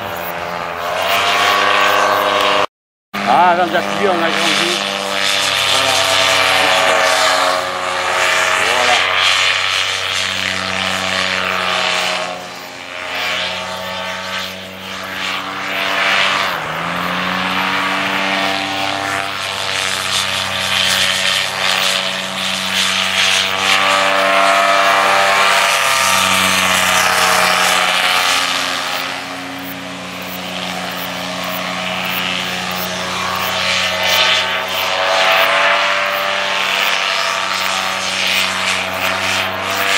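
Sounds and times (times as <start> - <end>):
paramotor engine buzzing: 0.0 - 39.9.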